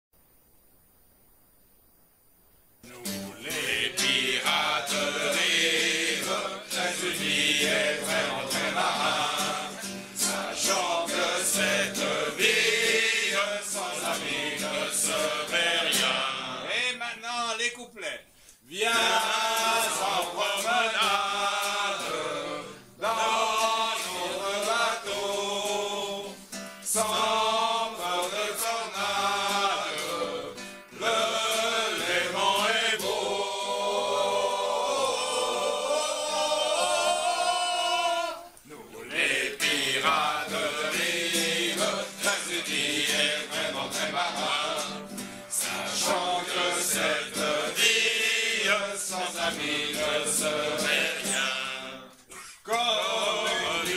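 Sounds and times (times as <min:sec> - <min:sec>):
group of voices singing: 0:02.9 - 0:17.0, 0:18.6 - 0:53.9.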